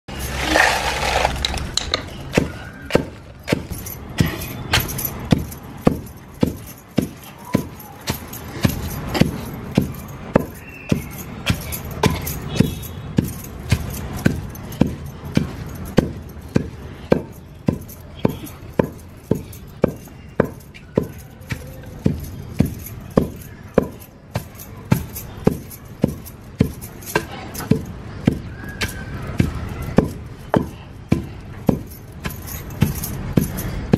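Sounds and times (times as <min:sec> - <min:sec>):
rhythmic striking: 0:01.7 - 0:33.9.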